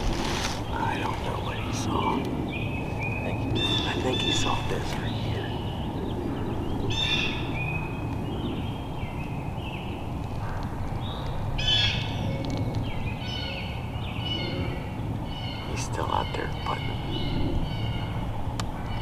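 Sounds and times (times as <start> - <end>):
low hum: 0.0 - 15.8
wild birds calling: 0.0 - 19.0.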